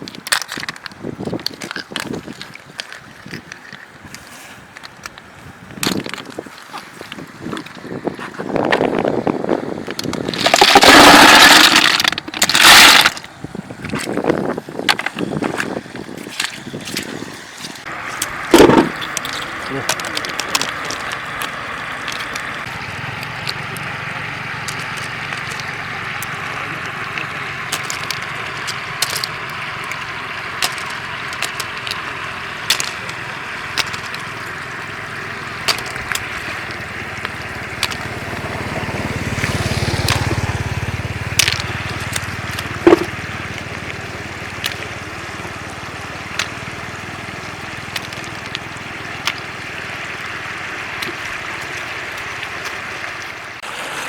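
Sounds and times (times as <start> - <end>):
sharp clicks and splashes: 0.0 - 9.1, 9.7 - 54.0
shallow floodwater running: 0.0 - 54.0
water rush with low rumble: 0.0 - 54.0.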